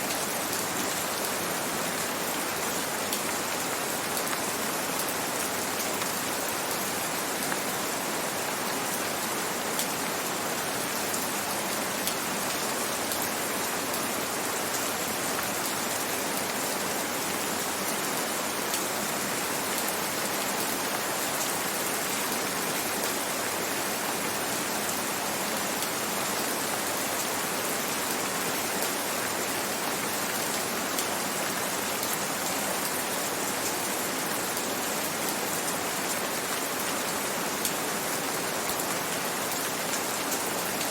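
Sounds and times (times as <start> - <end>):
gentle rain falling: 0.0 - 40.9.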